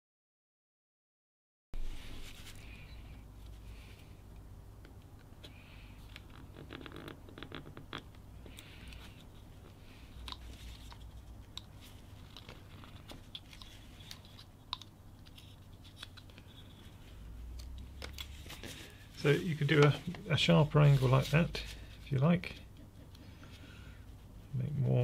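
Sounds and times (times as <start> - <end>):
low steady hum: 1.8 - 25.0.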